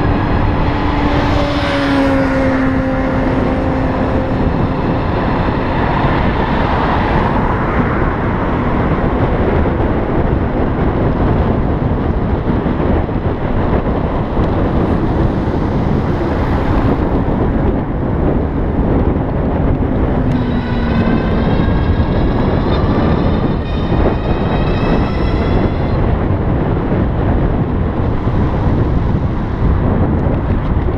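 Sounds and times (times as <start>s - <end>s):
whine rising in pitch: 0.0s - 9.0s, 13.8s - 30.6s
wind and road noise: 0.0s - 30.9s.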